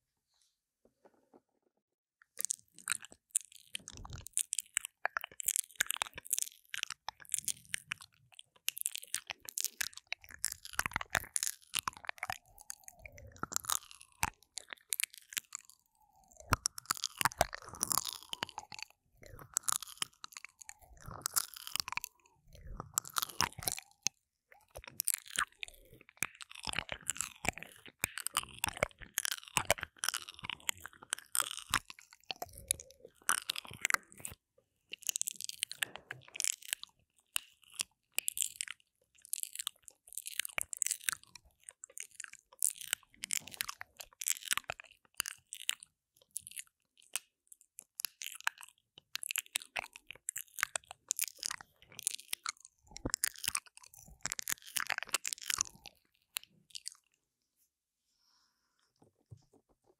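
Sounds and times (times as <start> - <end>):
lip smacks and mouth clicks: 2.2 - 57.2.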